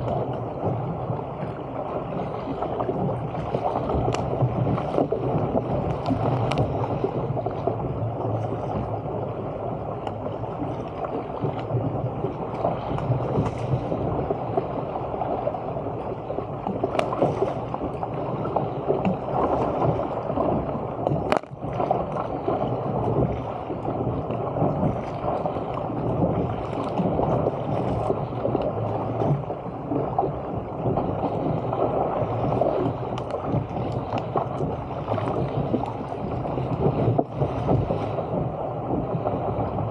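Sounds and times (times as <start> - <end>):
paddle stroke splashes: 0.0 - 39.9
water rushing along hull: 0.0 - 39.9.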